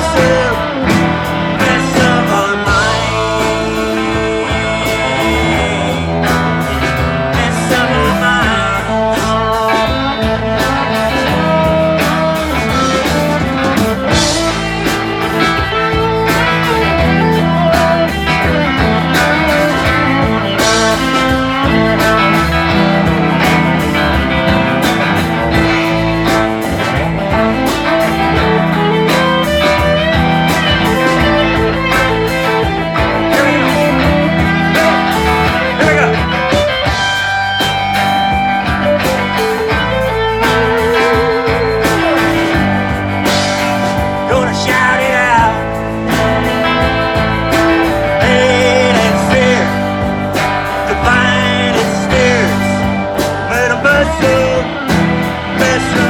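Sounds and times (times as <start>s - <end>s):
lead guitar: 0.0s - 56.0s
live band playing blues-rock: 0.0s - 56.0s.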